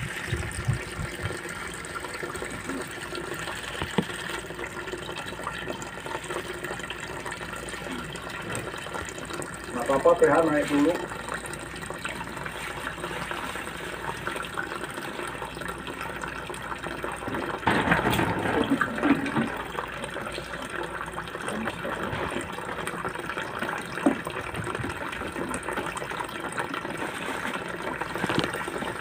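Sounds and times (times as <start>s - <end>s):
liquid streaming into bucket: 0.0s - 29.0s.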